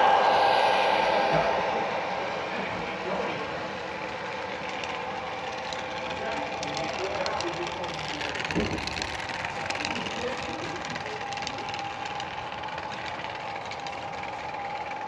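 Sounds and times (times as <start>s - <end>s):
model train cars rolling: 0.0s - 15.0s.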